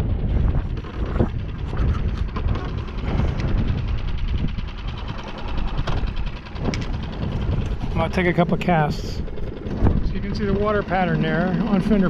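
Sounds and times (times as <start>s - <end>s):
outboard motor running: 0.0s - 12.0s
wind buffeting microphone: 0.0s - 12.0s.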